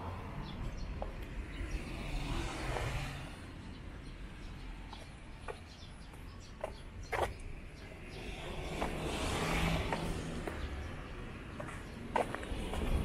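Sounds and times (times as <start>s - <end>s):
car passing: 0.0s - 6.1s, 7.2s - 13.0s.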